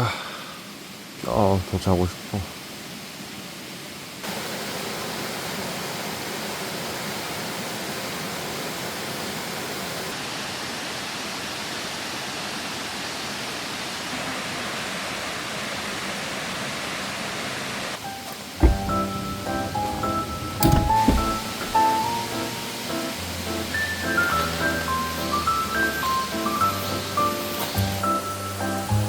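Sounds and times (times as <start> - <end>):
stream rushing: 4.2 - 28.9.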